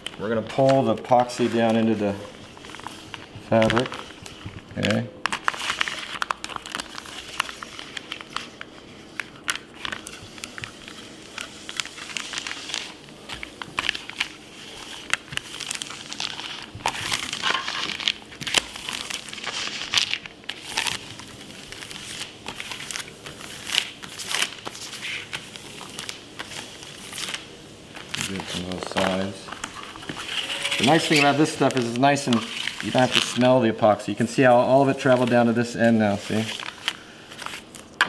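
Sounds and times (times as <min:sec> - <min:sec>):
plastic pouch crinkling and rustling: 0:00.0 - 0:38.0.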